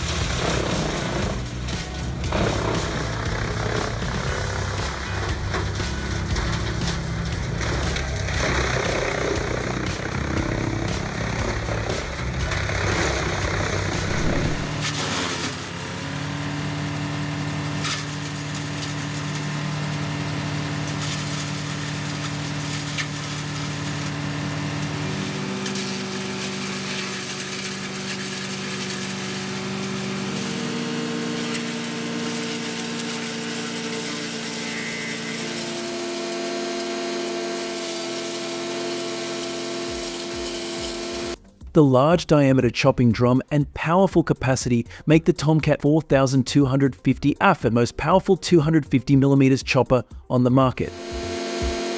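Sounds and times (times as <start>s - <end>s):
wood chipper engine chipping wood: 0.0s - 41.4s, 50.9s - 51.9s.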